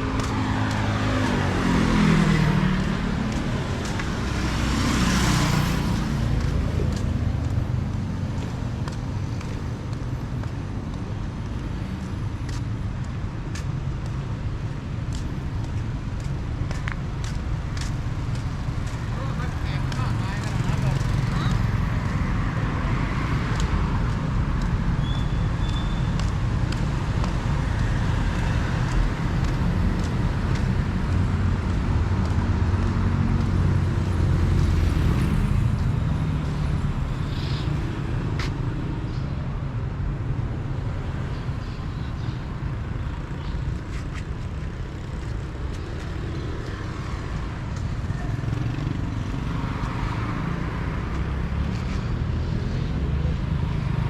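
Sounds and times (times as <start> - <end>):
passing cars and motorbikes: 0.0 - 54.0.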